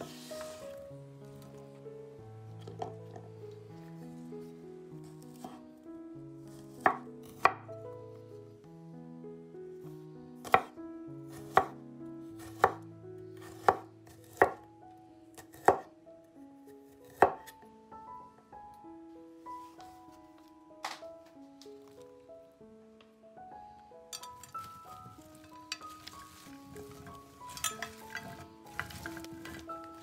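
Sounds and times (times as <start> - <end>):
quiet background music: 0.0 - 30.0.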